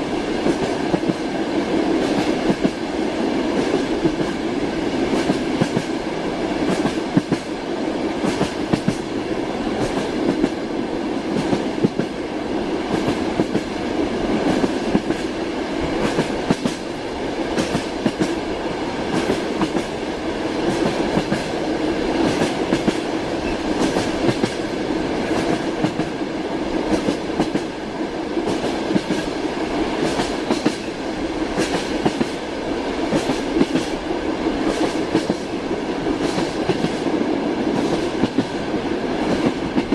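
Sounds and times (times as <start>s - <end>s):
railway carriage rumble: 0.0s - 39.9s
train wheels clickety-clack: 0.0s - 39.9s.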